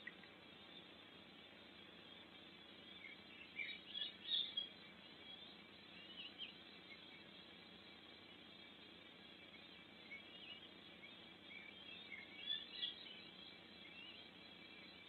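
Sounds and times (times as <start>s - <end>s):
faint forest hiss: 0.0s - 15.0s.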